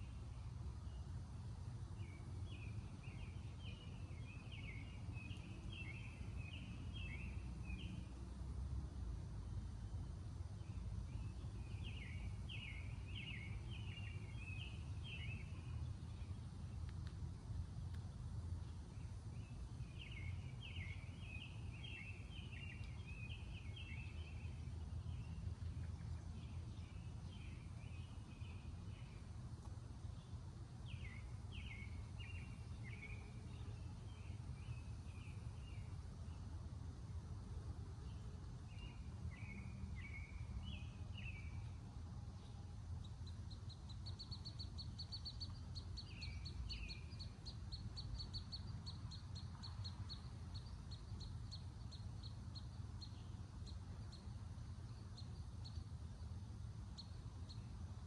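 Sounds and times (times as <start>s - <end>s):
low background rumble: 0.0s - 58.0s
songbird singing: 0.0s - 58.0s.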